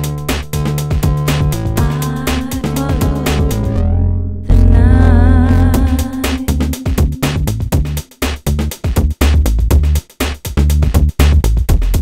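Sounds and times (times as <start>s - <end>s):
electronic music with drum machine beat: 0.0s - 12.0s
heavy bass: 0.0s - 12.0s.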